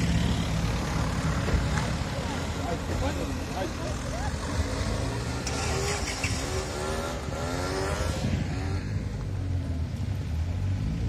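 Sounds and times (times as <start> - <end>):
scooter engine accelerating: 0.0 - 9.7
car engines rumbling: 0.0 - 11.0.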